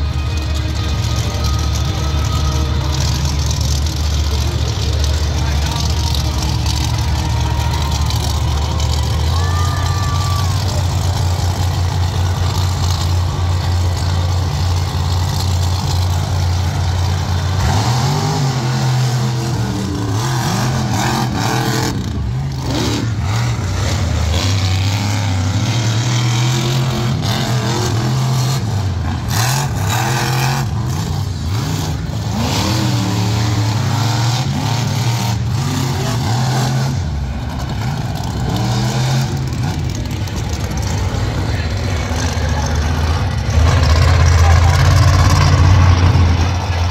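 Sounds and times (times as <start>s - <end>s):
truck engines idling and revving: 0.0s - 46.9s.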